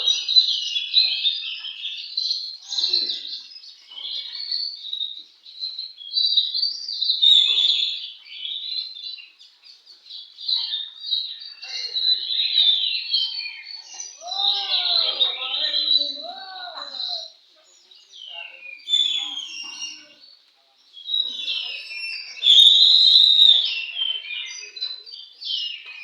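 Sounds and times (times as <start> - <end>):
birds singing: 0.0 - 26.0.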